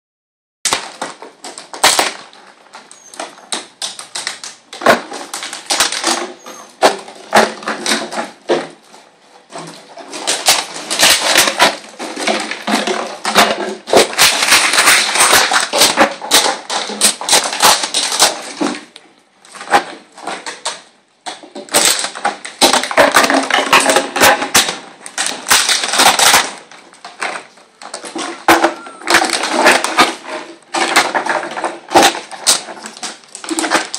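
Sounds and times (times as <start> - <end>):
claws scrabbling on concrete: 0.7 - 33.9.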